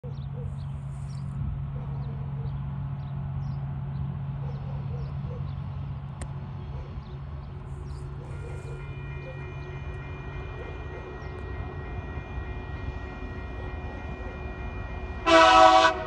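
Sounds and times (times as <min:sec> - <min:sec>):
diesel locomotive drone: 0:00.0 - 0:16.0.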